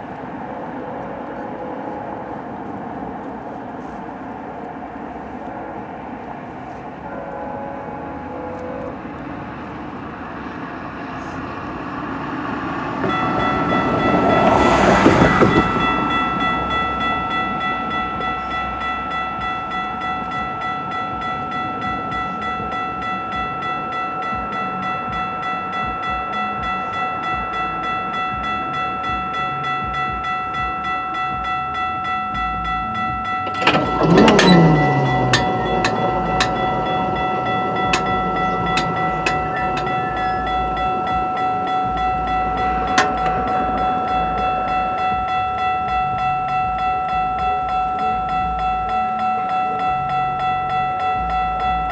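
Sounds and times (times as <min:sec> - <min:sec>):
train rushing past: 0:00.0 - 0:51.9
level crossing bell ringing: 0:05.2 - 0:10.0, 0:12.6 - 0:51.9.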